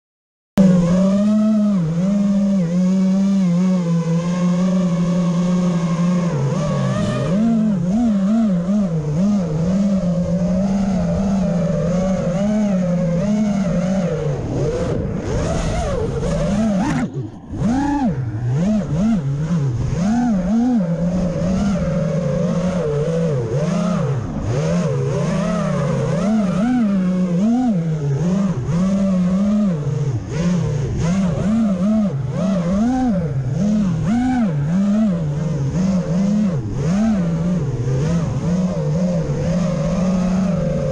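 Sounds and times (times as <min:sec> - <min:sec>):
quadcopter motors whining: 0:00.6 - 0:40.9.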